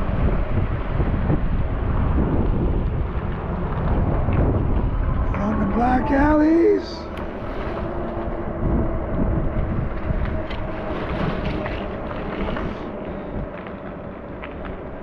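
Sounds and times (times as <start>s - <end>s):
road rumble: 0.0s - 15.0s
wind buffeting microphone: 0.0s - 15.0s.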